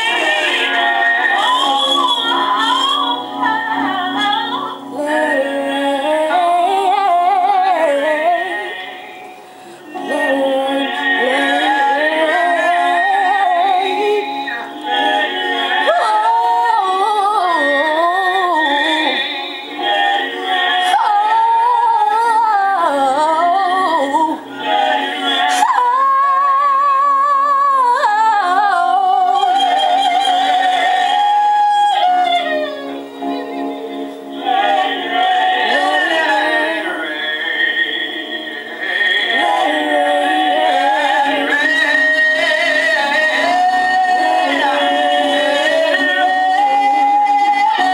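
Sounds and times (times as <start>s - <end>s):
woman singing gospel: 0.0s - 9.2s, 9.9s - 19.8s, 20.8s - 32.9s, 34.4s - 38.0s, 38.9s - 47.9s.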